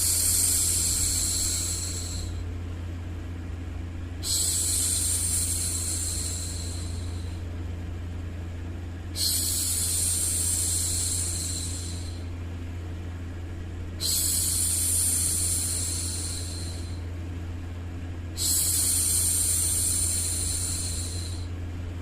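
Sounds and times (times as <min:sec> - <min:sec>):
steady white noise: 0:00.0 - 0:22.0.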